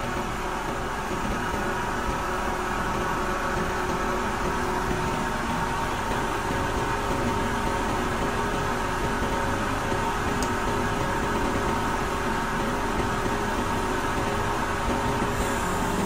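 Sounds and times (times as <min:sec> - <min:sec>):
heavy machinery droning: 0:00.0 - 0:16.0.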